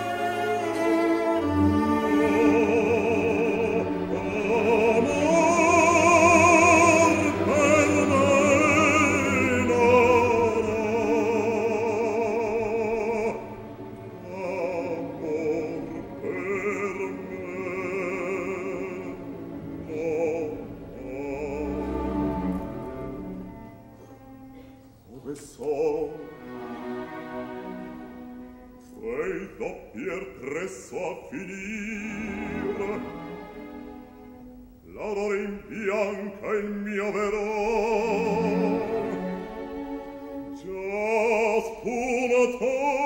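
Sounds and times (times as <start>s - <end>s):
orchestra playing: 0.0s - 43.0s.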